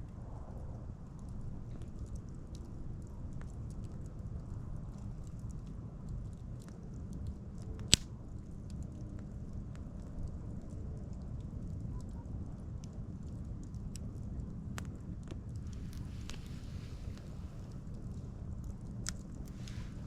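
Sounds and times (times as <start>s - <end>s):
low steady rumble: 0.0s - 20.0s
bonfire crackling: 1.0s - 20.0s.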